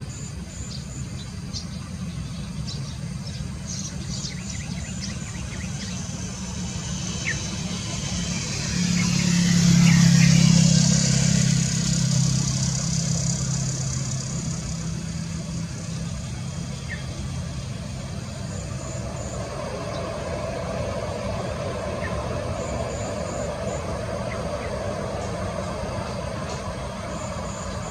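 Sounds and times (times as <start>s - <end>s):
turboprop aircraft passing: 0.0s - 27.9s.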